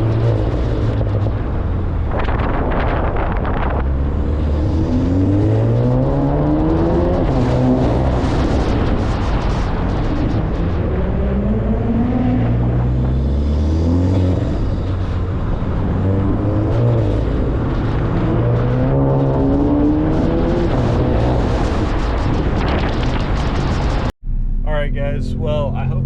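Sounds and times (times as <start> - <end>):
car engine accelerating hard: 0.0 - 26.0
wind and road noise: 0.0 - 26.0.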